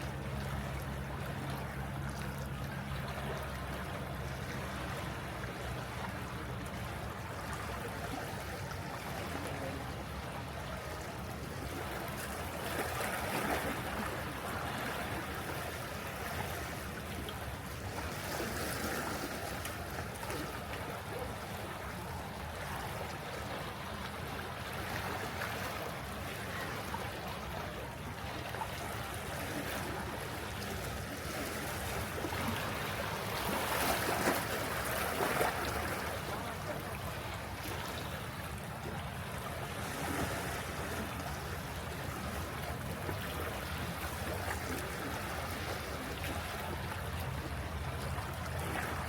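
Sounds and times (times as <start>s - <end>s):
sea waves washing on shore: 0.0s - 49.0s.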